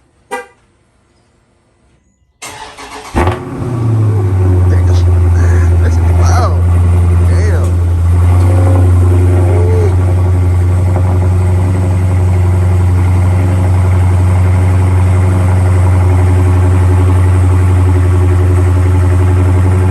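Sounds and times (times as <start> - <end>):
car engine idling: 2.4 - 19.9.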